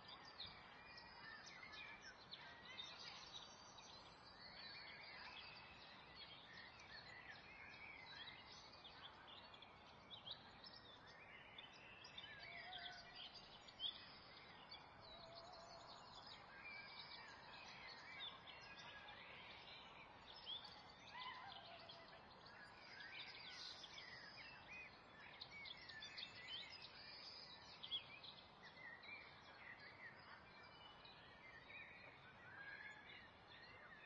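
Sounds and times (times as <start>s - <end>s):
small birds chirping and twittering: 0.0s - 34.0s.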